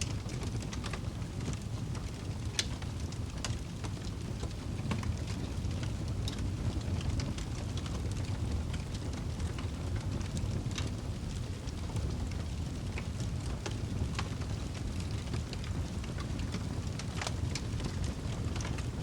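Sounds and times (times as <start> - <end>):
crackles and pops of logs: 0.0 - 19.0
wood fire burning: 0.0 - 19.0.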